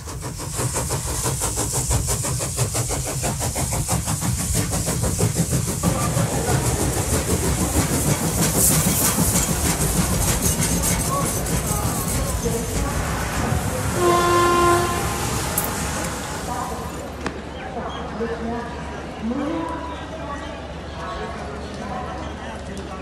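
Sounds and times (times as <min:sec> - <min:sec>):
passenger train passing: 0:00.0 - 0:23.0.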